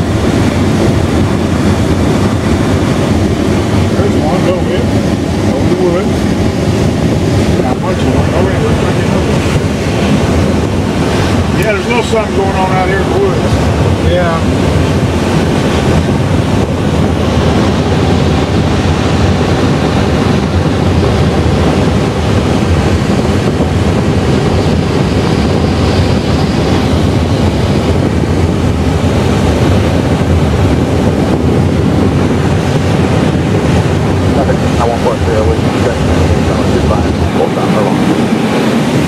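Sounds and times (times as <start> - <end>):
wind rushing past cockpit: 0.0 - 39.0.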